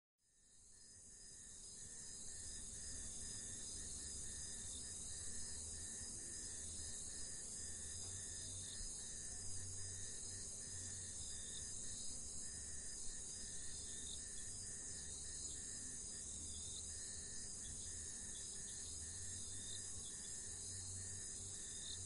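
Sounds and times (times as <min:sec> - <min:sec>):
crickets and insects chirping: 0:00.4 - 0:22.0.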